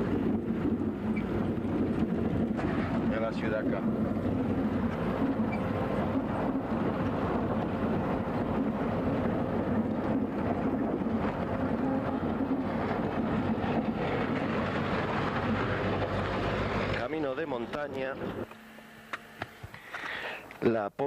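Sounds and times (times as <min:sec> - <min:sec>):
vehicle engine running: 0:00.0 - 0:18.5
road noise on dirt track: 0:00.0 - 0:18.6.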